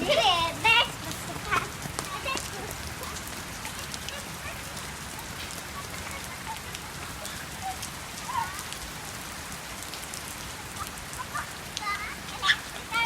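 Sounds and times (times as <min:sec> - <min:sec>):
rain falling: 0:00.0 - 0:13.0
raindrops ticking on surfaces: 0:00.0 - 0:13.0.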